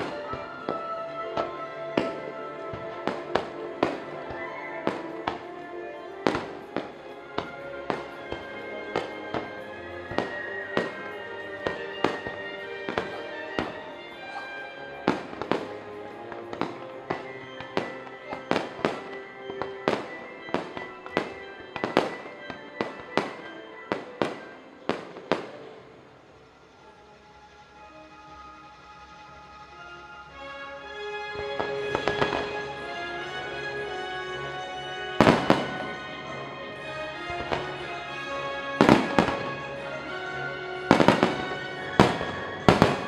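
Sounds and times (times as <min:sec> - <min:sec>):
firework bangs: 0:00.0 - 0:25.9, 0:31.3 - 0:43.0
music with long held notes: 0:00.0 - 0:43.0.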